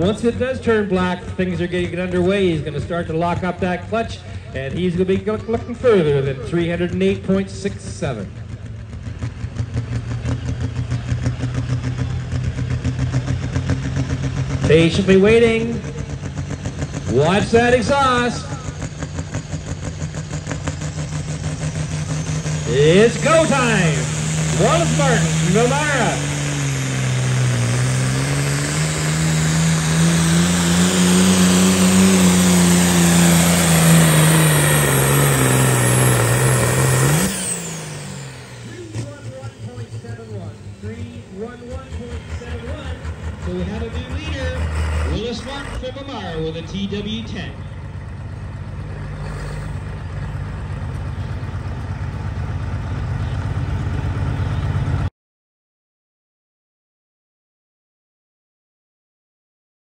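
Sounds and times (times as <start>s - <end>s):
diesel tractor engine under load: 0.0s - 55.1s.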